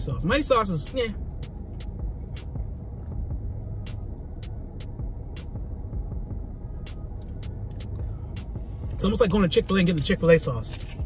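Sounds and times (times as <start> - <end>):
car interior engine rumble: 0.0 - 11.0.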